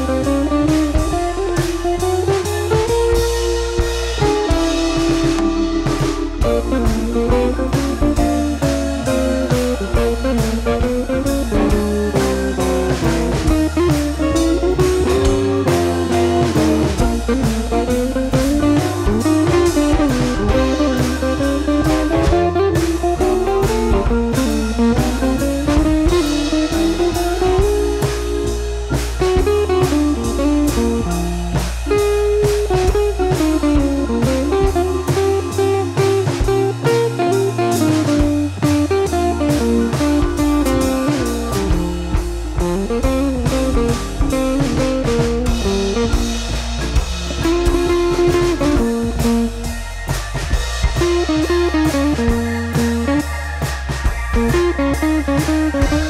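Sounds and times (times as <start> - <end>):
bluesy guitar music with drums: 0.0 - 56.0.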